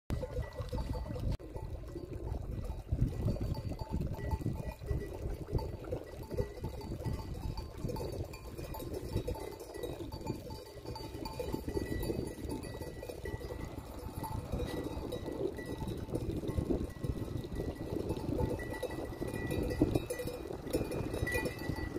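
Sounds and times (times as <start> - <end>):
goat bells clinking: 0.1 - 21.9
water running into a trough: 0.1 - 21.9.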